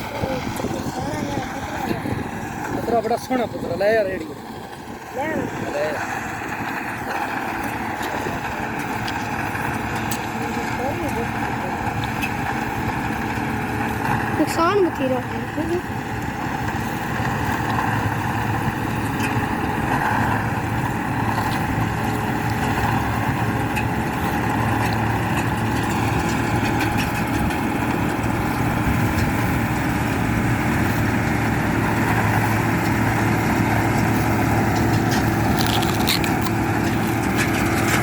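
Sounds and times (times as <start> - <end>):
harvesting machine engine humming: 0.0 - 38.0.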